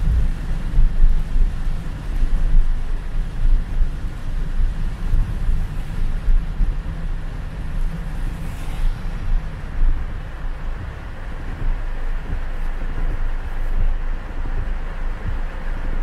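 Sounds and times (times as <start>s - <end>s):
rain and water spray hissing: 0.0s - 16.0s
tyres and engine rumbling: 0.0s - 16.0s.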